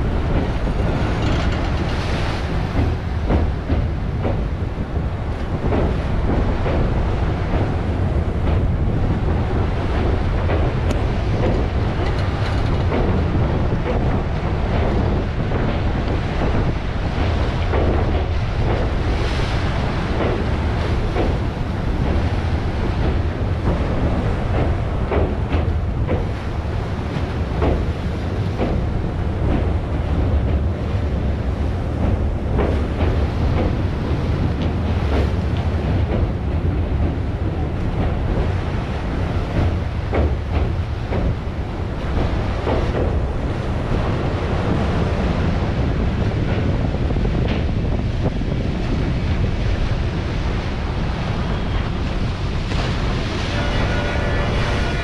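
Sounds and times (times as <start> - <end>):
sea waves washing: 0.0 - 55.0
train coaches rumbling past: 0.0 - 55.0
wind buffeting microphone: 0.0 - 55.0.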